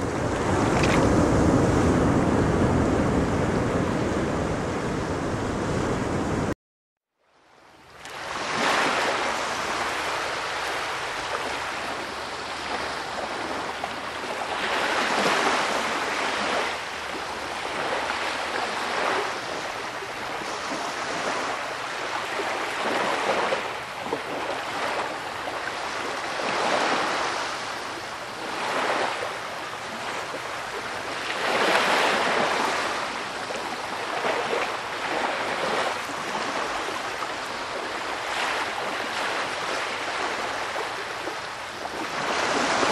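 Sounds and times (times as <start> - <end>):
ocean surf on sand: 0.0 - 6.6, 7.9 - 42.9.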